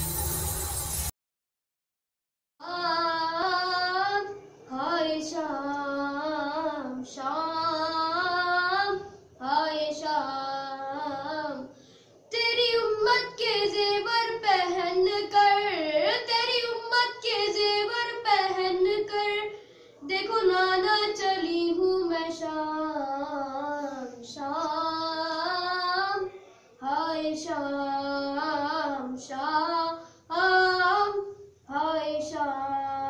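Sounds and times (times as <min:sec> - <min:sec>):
boy chanting a lament: 0:02.6 - 0:33.0.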